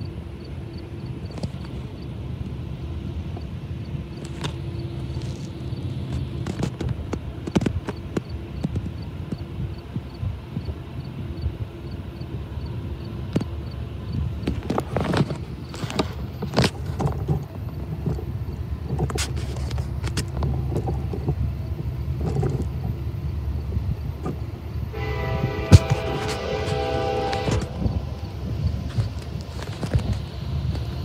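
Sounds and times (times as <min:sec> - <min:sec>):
diesel locomotive engine rumble: 0:00.0 - 0:31.0.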